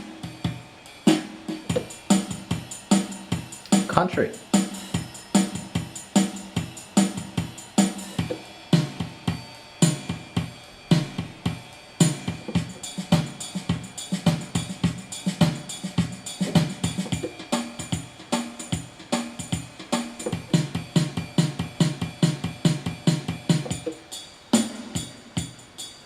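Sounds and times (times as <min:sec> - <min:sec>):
electronic keyboard country accompaniment: 0:00.0 - 0:08.4, 0:09.9 - 0:24.7.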